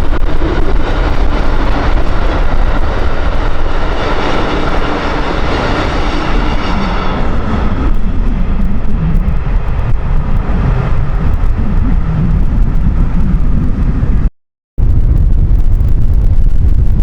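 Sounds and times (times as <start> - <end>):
passing train hum: 0.0 - 14.3
wind rumbling on microphone: 0.0 - 17.0.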